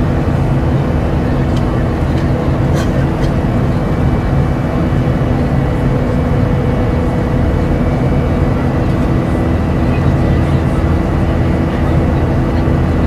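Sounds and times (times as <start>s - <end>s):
aircraft engine and airflow rumble: 0.0s - 13.0s
steady hums: 0.0s - 13.0s.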